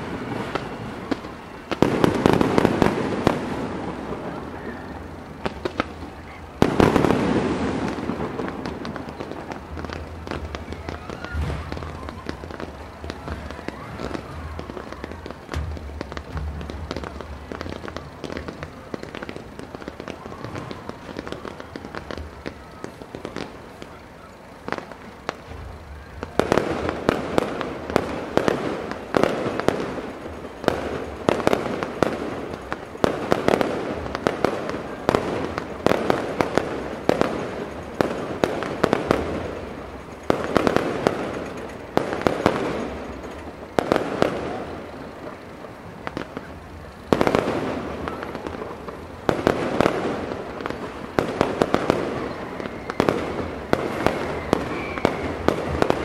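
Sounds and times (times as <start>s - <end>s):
firework crackling: 0.0s - 56.0s
firework shell bursts: 0.0s - 56.0s.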